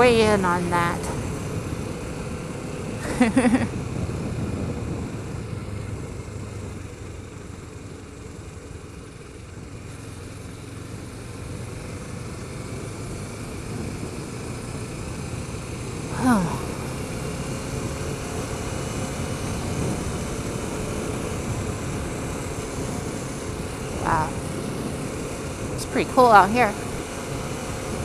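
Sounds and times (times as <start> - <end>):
motorcycle engine running: 0.0 - 28.0
road and wind noise: 0.0 - 28.0.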